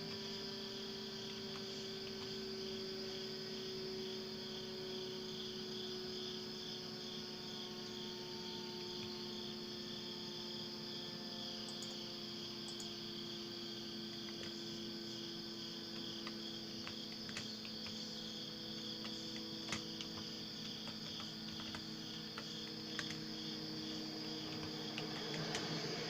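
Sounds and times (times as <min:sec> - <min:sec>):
crickets chirping: 0:00.0 - 0:26.0
distant siren steady note: 0:00.0 - 0:26.0.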